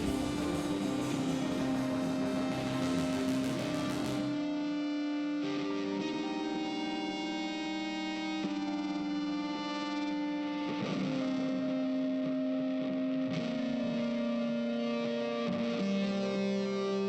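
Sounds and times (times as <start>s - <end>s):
distorted electric guitar notes: 0.0s - 17.0s.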